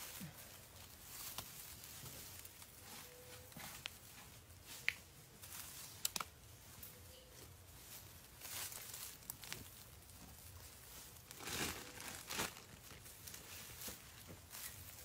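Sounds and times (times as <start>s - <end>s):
faint rustling on straw: 0.0s - 15.0s.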